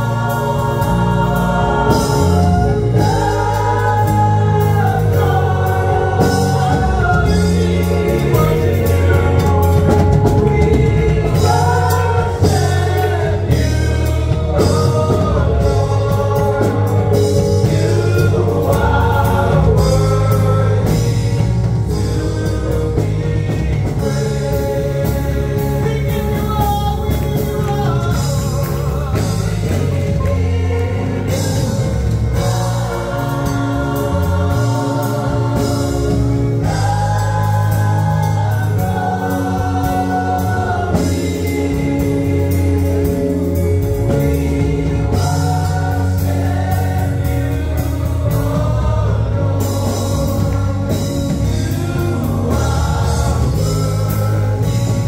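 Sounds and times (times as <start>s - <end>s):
bass guitar: 0.0s - 55.0s
choir singing gospel song: 0.0s - 55.0s
drums: 0.0s - 55.0s.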